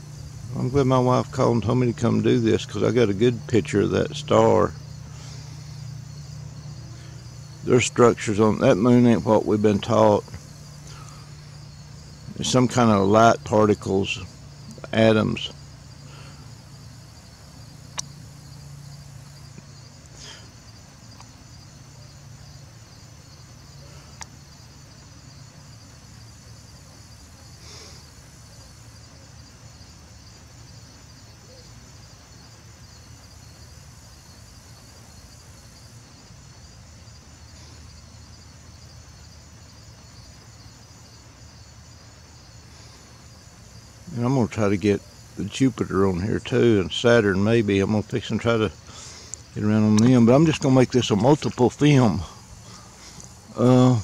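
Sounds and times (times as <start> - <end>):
crickets chirping: 0.0 - 54.0
low steady hum: 0.0 - 54.0.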